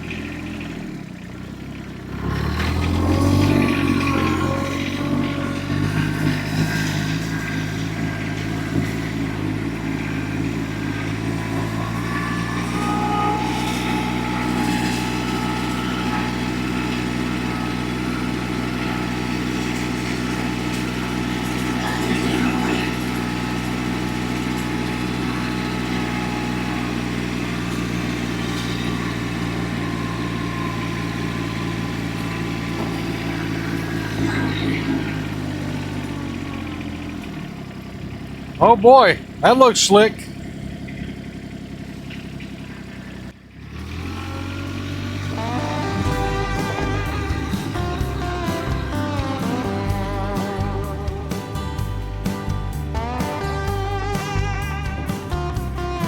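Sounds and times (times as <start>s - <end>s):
pickup truck engine running: 0.0s - 56.0s.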